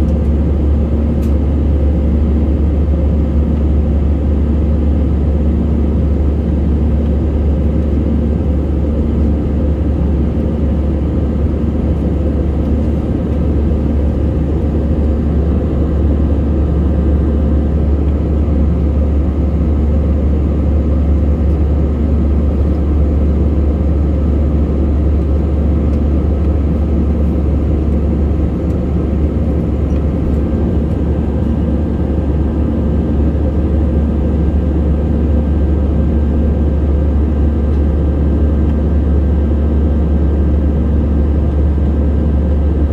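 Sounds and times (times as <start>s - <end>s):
jet cabin engine rumble: 0.0s - 42.9s.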